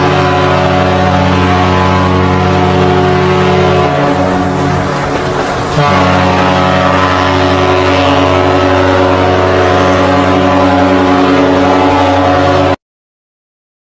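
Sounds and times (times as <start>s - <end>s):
ship horn blast: 0.0s - 12.8s.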